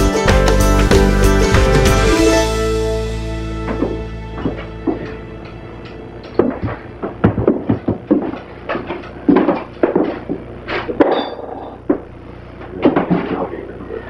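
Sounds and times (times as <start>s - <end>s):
steady low hum: 1.3s - 14.0s.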